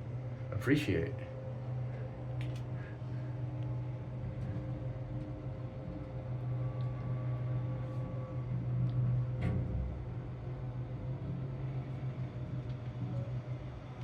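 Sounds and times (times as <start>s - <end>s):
cable car low hum: 0.0s - 14.0s
faint higher whine: 0.0s - 14.0s.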